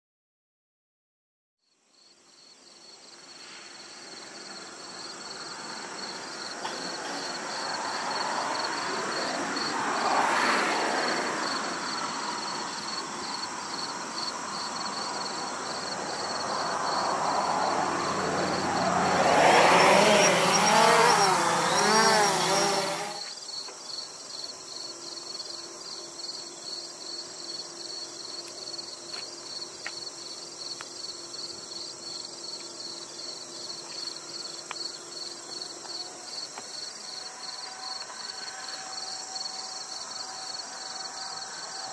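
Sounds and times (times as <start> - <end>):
crickets chirping: 1.6 - 41.9.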